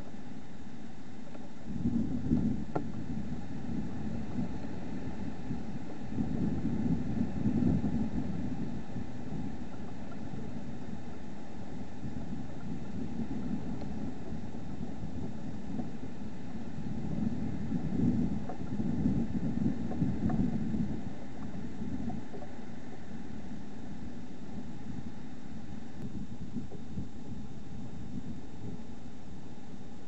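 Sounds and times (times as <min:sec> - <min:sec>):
steady camera hiss: 0:00.0 - 0:30.0
wind rumbling on microphone: 0:00.0 - 0:30.0.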